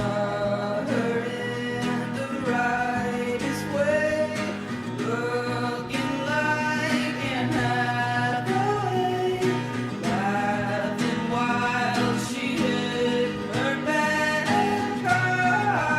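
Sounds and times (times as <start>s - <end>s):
acoustic guitar: 0.0s - 15.9s
person singing: 0.0s - 15.9s.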